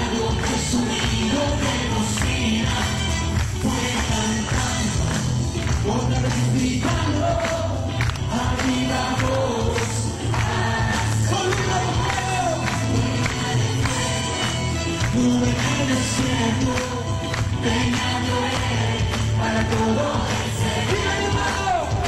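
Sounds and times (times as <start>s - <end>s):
congregation singing: 0.0s - 22.0s
hands clapping: 0.0s - 22.0s
musical accompaniment: 0.0s - 22.0s.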